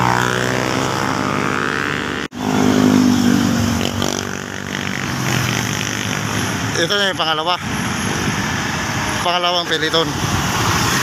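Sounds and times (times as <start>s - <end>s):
vehicles passing by: 0.0s - 11.0s.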